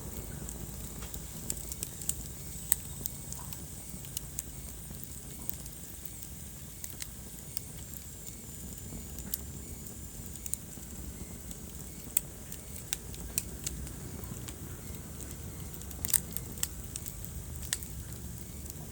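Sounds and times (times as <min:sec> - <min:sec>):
fire crackling and popping: 0:00.0 - 0:18.9
fire flames rumbling: 0:00.0 - 0:18.9.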